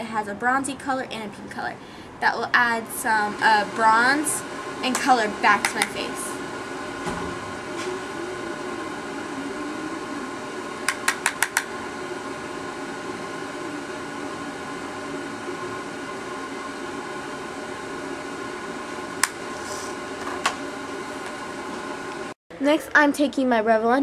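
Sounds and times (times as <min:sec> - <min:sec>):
household machine humming: 0:00.0 - 0:22.4.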